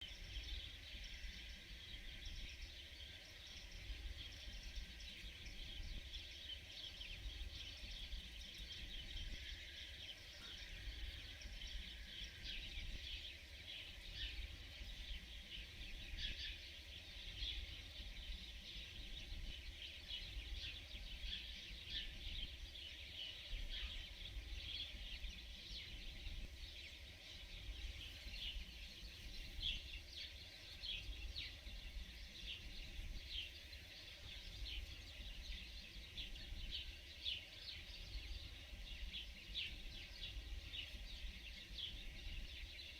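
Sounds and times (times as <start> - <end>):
chorus of high chirps: 0.0 - 42.9.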